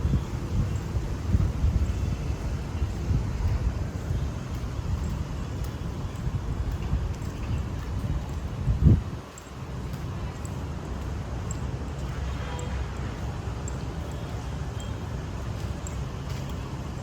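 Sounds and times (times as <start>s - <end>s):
street traffic rumble: 0.0s - 17.0s
faint light ticks: 0.6s - 17.0s.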